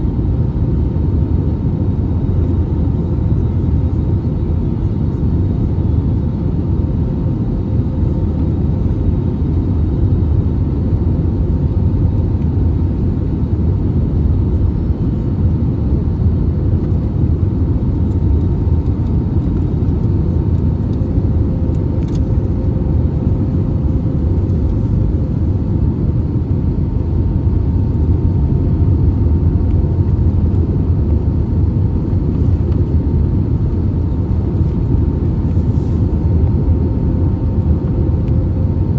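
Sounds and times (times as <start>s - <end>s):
airplane cabin rumble: 0.0s - 38.9s
faint steady hums: 0.0s - 38.9s.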